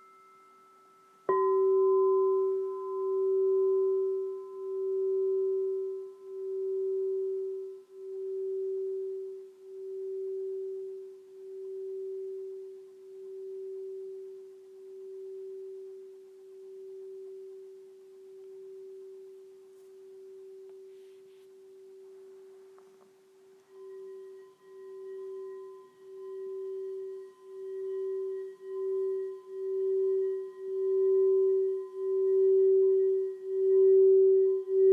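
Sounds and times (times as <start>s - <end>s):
singing bowl being struck: 0.0s - 21.0s, 23.6s - 34.9s
crystal singing bowl ringing: 0.0s - 34.9s.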